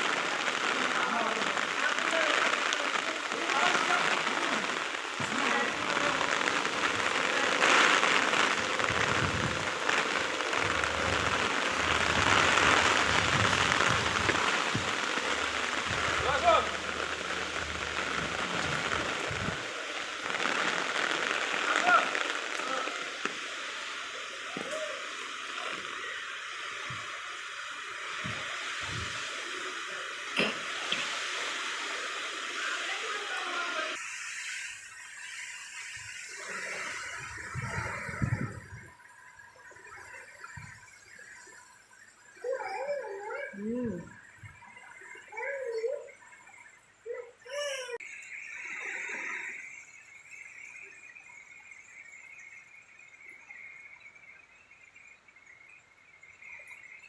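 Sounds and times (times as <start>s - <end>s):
heavy rain pouring: 0.0s - 51.3s.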